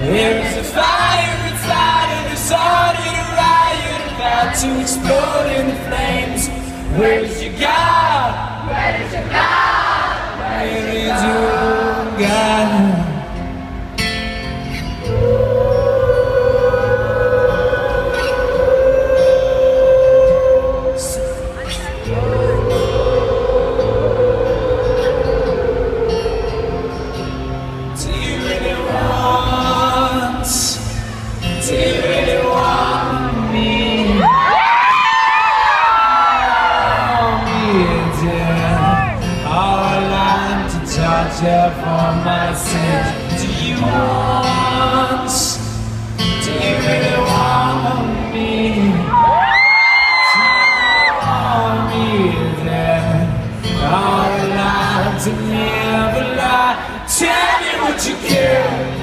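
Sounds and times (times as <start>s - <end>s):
acoustic guitar: 0.0s - 59.0s
crowd singing along: 0.0s - 59.0s.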